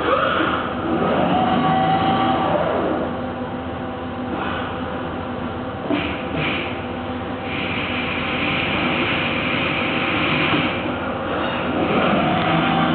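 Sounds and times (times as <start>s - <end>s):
factory machinery humming: 0.0s - 12.9s.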